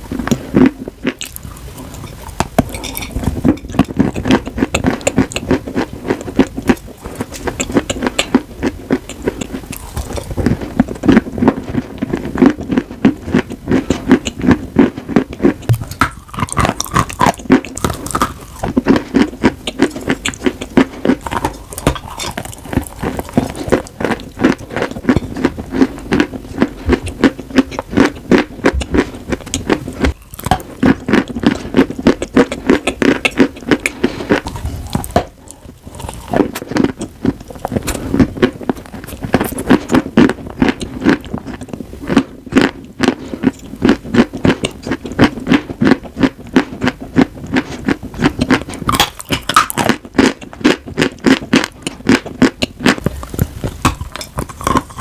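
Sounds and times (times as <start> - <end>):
chewing crunchy chalk: 0.0 - 55.0.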